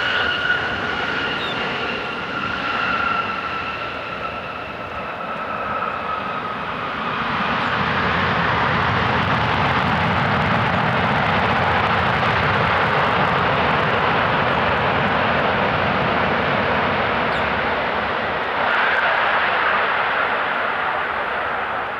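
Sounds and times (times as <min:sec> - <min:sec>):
jet engines roaring in reverse thrust: 0:00.0 - 0:21.9.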